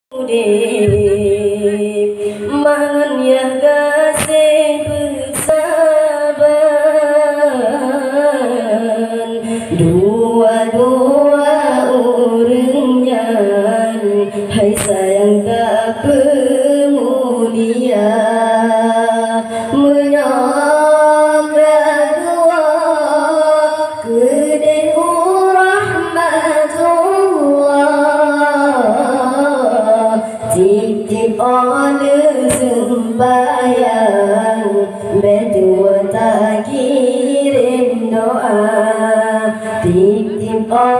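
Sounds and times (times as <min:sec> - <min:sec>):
boys singing into microphones: 0:00.1 - 0:40.9.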